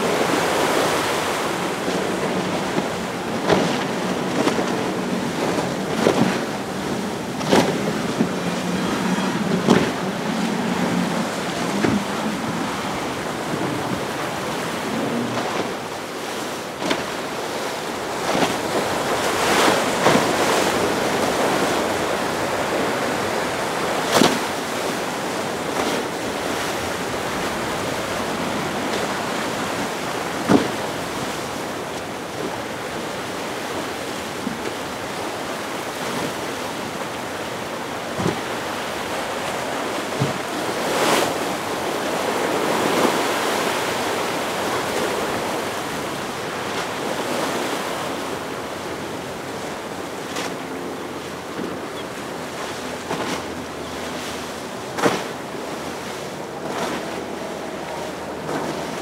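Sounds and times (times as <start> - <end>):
surf breaking: 0.0 - 59.0
wind on microphone: 0.0 - 59.0.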